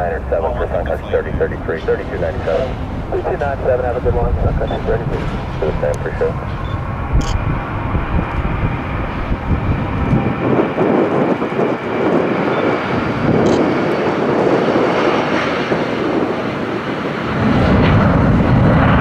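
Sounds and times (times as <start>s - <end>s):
jet engines at high power: 0.0s - 19.0s.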